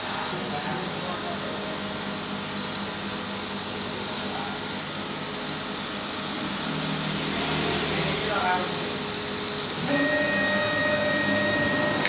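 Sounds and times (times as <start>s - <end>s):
laser cutter whirring hiss: 0.0s - 12.0s.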